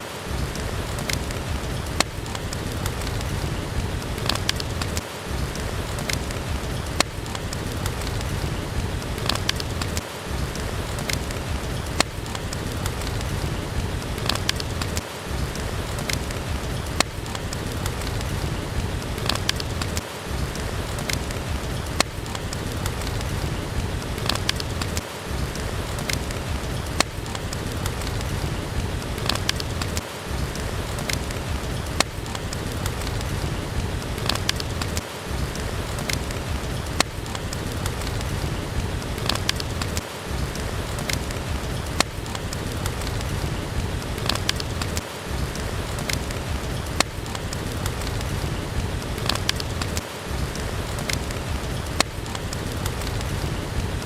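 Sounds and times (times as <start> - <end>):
steady rainfall: 0.0 - 54.0
wood fire crackling and popping: 0.0 - 54.0.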